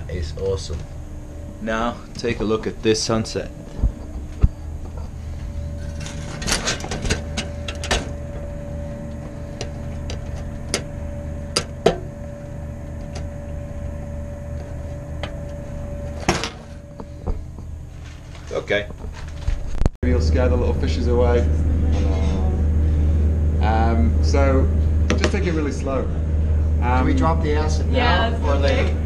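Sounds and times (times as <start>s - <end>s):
boat machinery humming: 0.0s - 29.0s.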